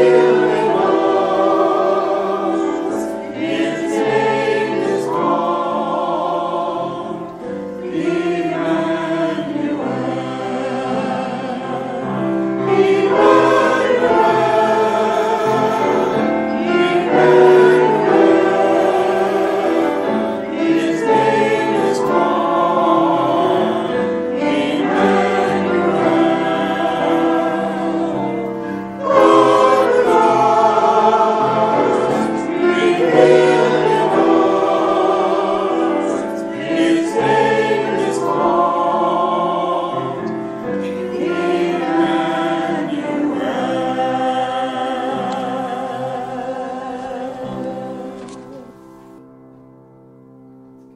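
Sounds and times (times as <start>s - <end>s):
choir singing a hymn: 0.0s - 49.3s.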